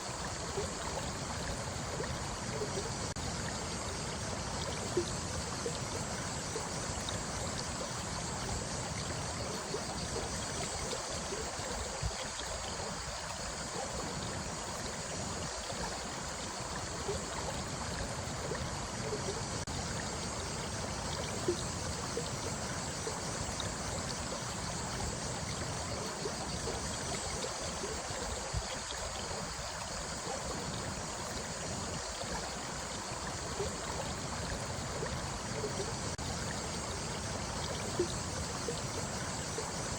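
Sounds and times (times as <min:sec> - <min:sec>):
shallow stream trickling: 0:00.0 - 0:39.9
water splashes and gurgles: 0:00.0 - 0:39.9.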